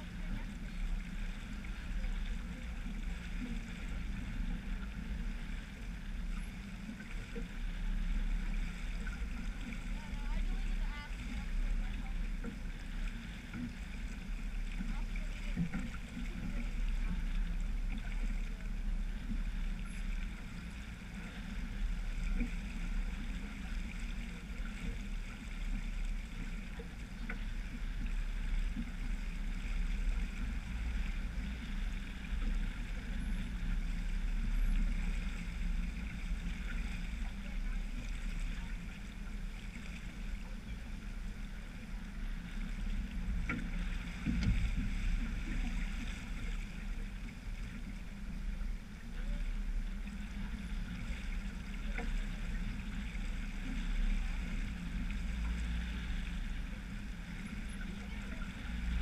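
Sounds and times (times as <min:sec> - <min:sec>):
water rushing along hull: 0:00.0 - 0:59.0.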